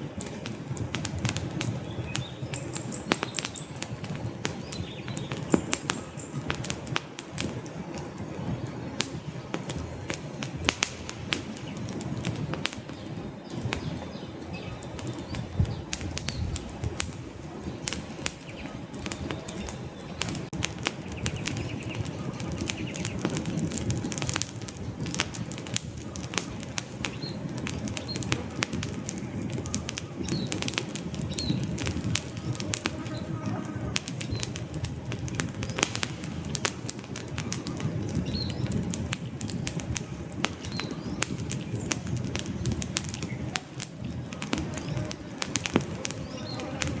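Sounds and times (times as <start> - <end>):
logs crackling and popping: 0.0 - 47.0
rush of flames: 0.0 - 47.0.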